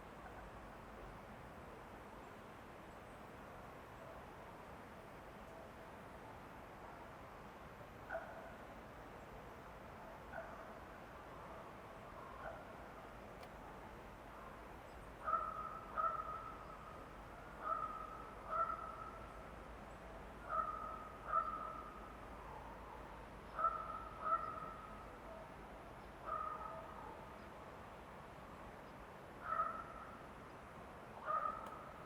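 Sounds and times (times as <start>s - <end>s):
faint background hiss: 0.0s - 32.0s.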